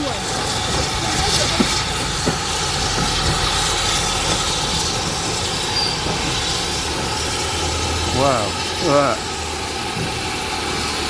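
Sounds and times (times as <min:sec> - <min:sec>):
steam train rolling past: 0:00.0 - 0:11.0.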